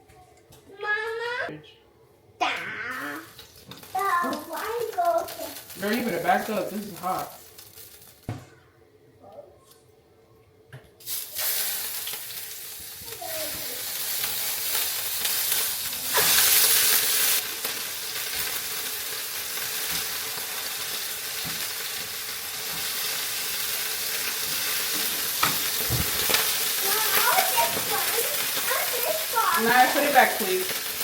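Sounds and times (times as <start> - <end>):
food sizzling in a pan: 2.6 - 8.3, 11.0 - 31.0.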